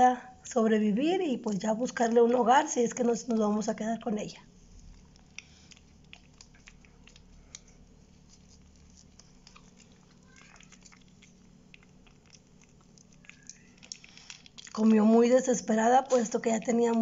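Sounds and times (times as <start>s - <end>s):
puppy chewing: 1.9s - 17.0s.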